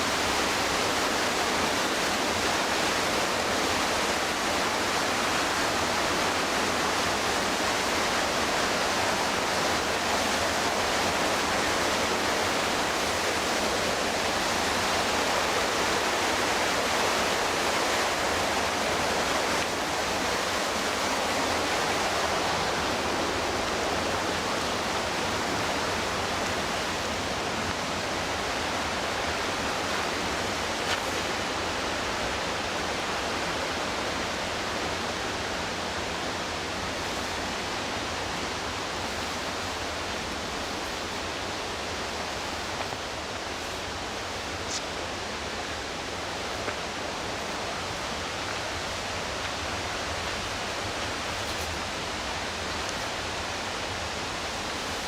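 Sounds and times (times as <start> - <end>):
whitewater rushing: 0.0 - 55.0.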